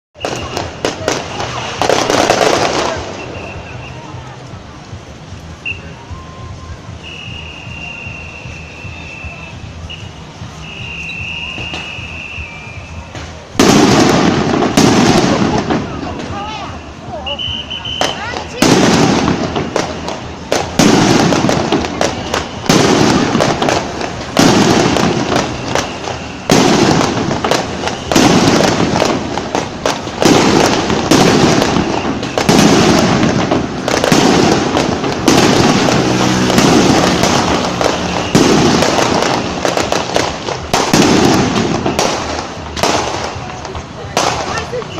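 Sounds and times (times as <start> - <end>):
fireworks bursting and crackling: 0.1 - 44.9.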